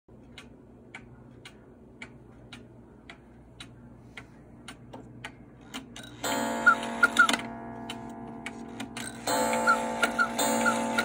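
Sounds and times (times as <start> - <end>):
wall clock ticking: 0.1 - 11.0.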